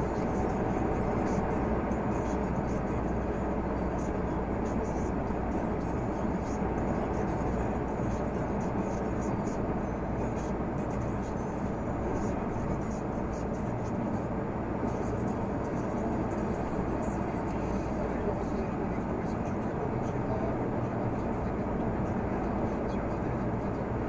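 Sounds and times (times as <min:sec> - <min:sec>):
road noise: 0:00.0 - 0:24.0
truck diesel engine drone: 0:00.0 - 0:24.0.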